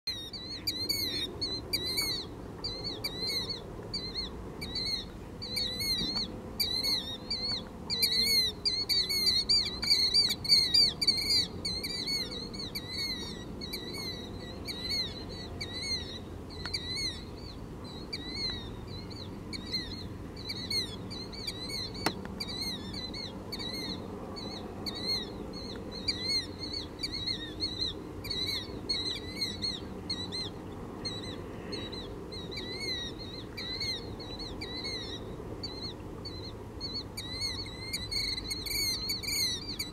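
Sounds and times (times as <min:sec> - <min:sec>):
killdeer calling: 0:00.1 - 0:39.9.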